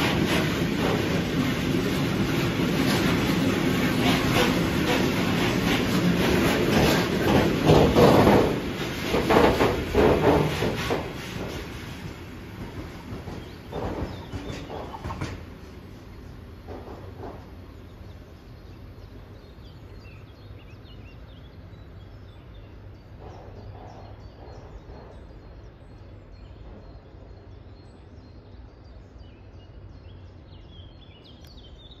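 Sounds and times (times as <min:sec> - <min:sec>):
songbirds chirping and singing: 0:04.0 - 0:32.0.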